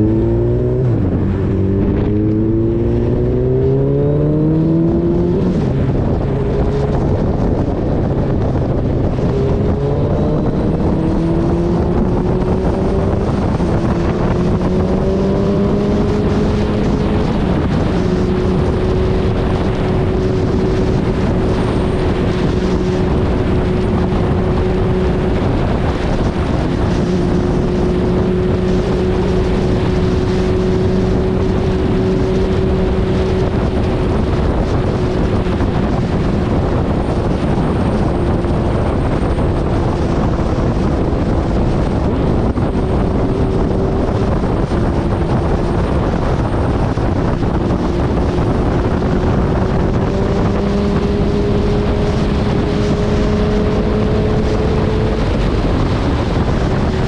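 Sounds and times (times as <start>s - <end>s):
motorcycle engine running: 0.0s - 57.0s
wind rush over microphone: 0.0s - 57.0s.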